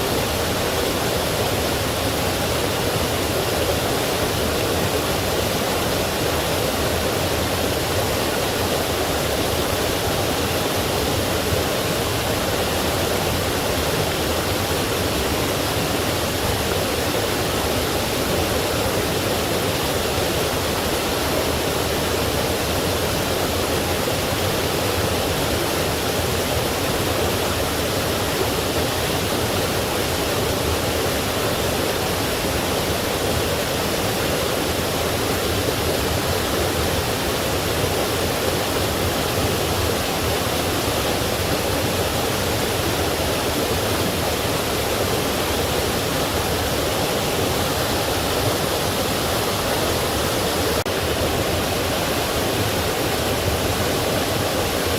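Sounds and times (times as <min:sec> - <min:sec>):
stream and small waterfall: 0:00.0 - 0:54.9.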